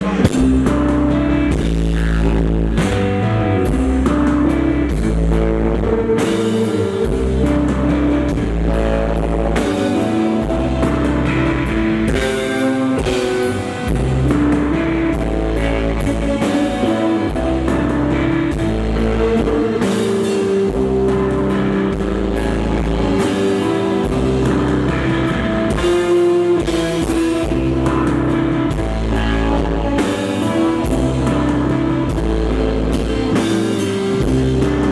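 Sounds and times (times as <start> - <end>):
drum kit: 0.0 - 34.9
electric guitar: 0.0 - 34.9
heavy bass: 0.0 - 34.9.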